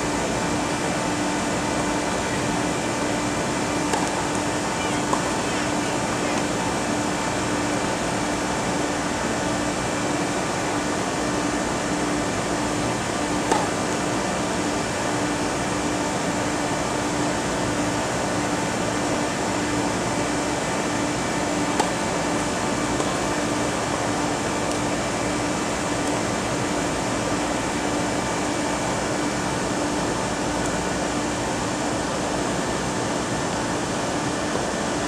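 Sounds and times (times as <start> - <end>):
machine hum and hiss: 0.0 - 35.0.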